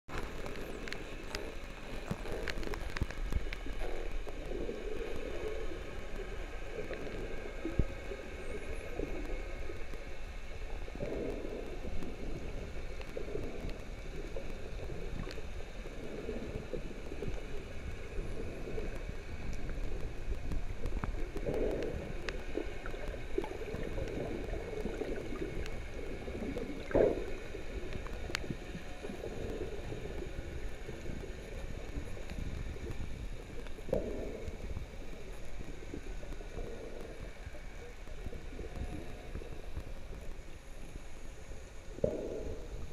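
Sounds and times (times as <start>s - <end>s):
underwater gurgling: 0.1s - 42.9s.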